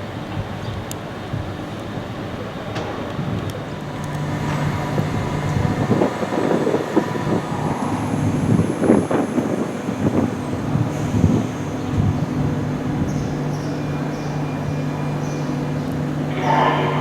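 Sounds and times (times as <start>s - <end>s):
electric train hum: 0.0s - 17.0s
train rumble and clatter: 0.0s - 17.0s.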